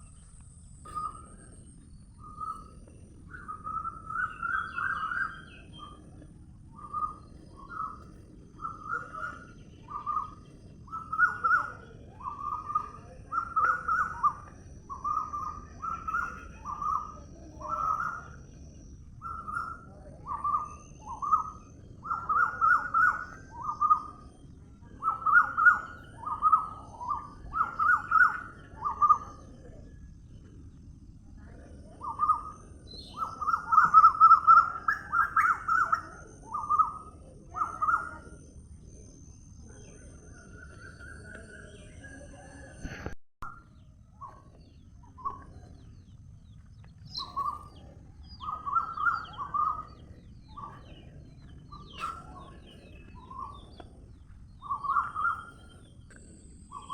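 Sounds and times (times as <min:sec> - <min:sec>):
bird calling: 0:00.0 - 0:30.0, 0:31.4 - 0:38.4, 0:44.2 - 0:56.9
low background noise: 0:00.0 - 0:56.9.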